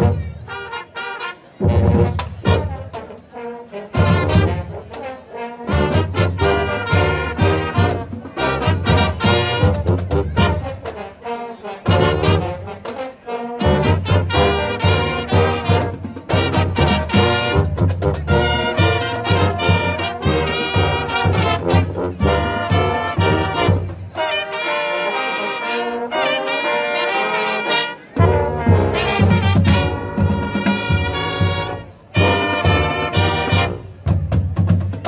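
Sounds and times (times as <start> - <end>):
marching brass band playing: 0.0 - 35.0
snare and bass drums: 1.6 - 3.2, 3.9 - 11.2, 11.8 - 24.4, 28.2 - 35.0.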